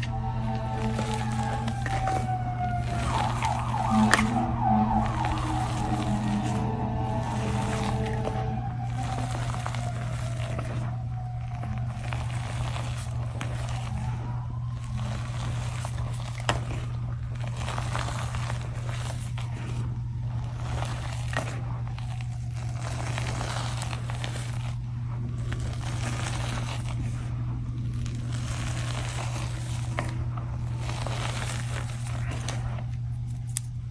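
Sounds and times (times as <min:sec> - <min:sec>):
chalk crunching in a glass bowl: 0:00.0 - 0:33.9
steady low hum: 0:00.0 - 0:33.9.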